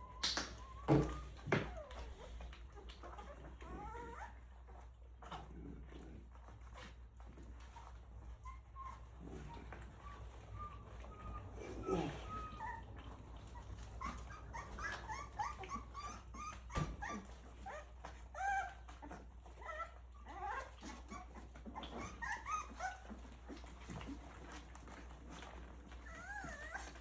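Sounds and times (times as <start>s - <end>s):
puppies whimpering and squealing: 0.0s - 27.0s.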